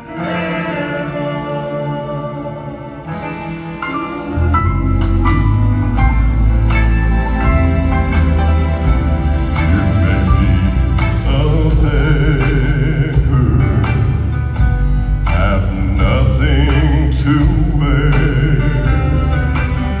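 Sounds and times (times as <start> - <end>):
instrumental accompaniment: 0.0 - 20.0
male vocal quartet singing: 0.0 - 20.0.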